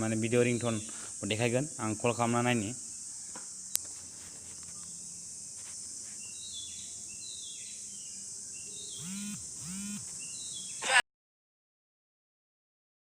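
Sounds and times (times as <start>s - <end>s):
steady high hiss: 0.0s - 10.8s.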